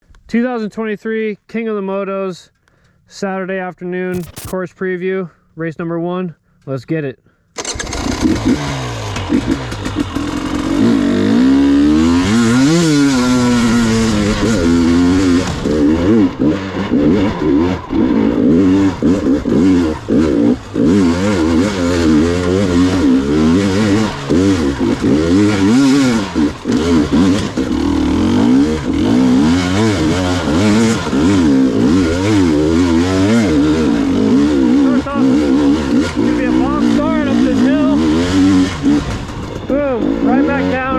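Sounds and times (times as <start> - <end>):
two-stroke motorcycle engine revving: 4.1 - 4.6, 7.6 - 40.9.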